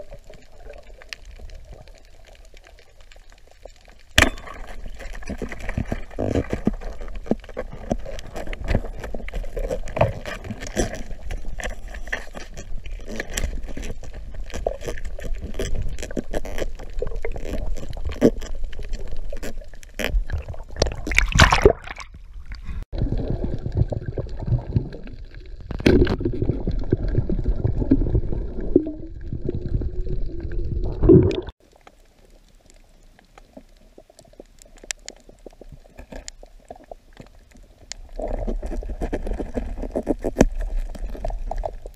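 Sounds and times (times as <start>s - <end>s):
water sloshing and splashing: 0.0s - 41.9s.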